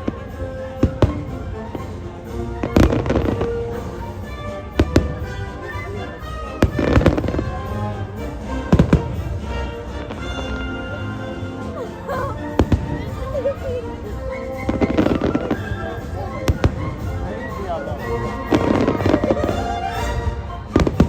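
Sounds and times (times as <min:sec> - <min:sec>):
music soundtrack: 0:00.0 - 0:21.0.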